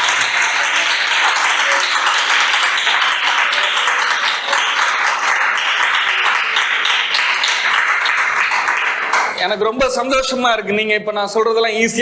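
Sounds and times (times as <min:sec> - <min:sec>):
congregation applauding: 0:00.0 - 0:10.5.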